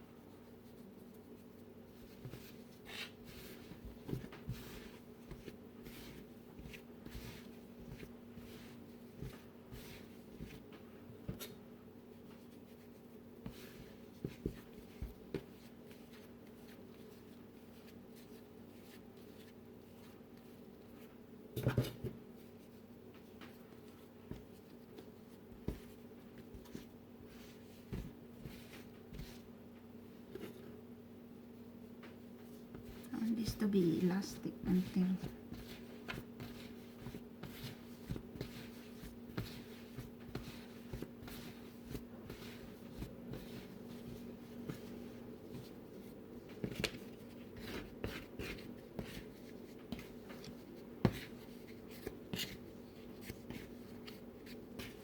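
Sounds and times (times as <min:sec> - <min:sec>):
bread dough kneaded by hand: 0:00.0 - 0:55.0.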